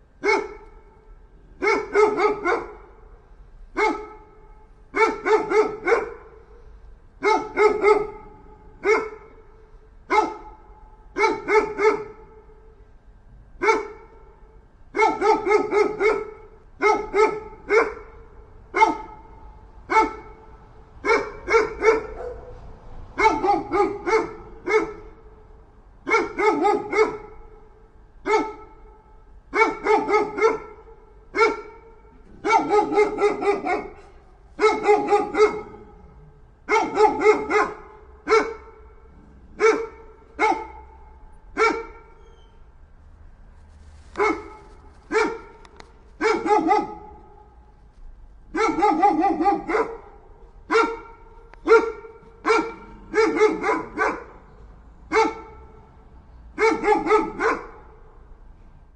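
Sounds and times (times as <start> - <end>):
dog barking aggressively: 0.2 - 0.7, 1.6 - 3.0, 3.7 - 6.6, 7.2 - 9.5, 10.1 - 12.4, 13.6 - 14.2, 14.9 - 25.4, 26.0 - 27.6, 28.2 - 42.2, 44.1 - 47.6, 48.5 - 55.9, 56.5 - 58.0.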